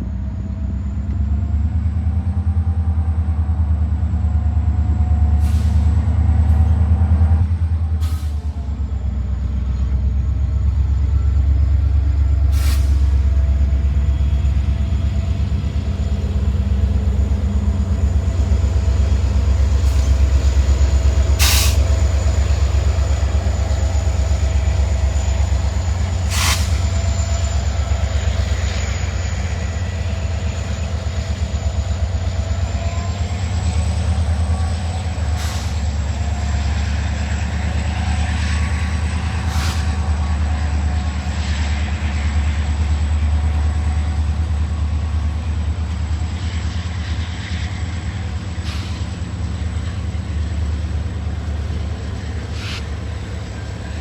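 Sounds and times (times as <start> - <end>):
freight train rumbling: 0.0 - 54.0
sharp train clanks: 4.7 - 54.0.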